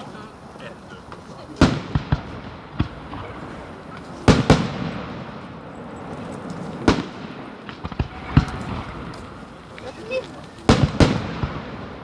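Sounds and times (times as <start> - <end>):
firework shells bursting: 0.0 - 5.4, 6.0 - 12.0
firework crackles: 0.0 - 12.0.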